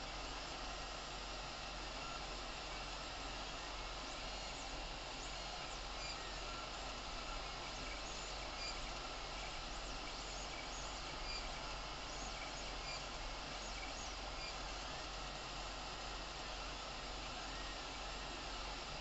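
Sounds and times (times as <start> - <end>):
fan whirring: 0.0 - 19.0.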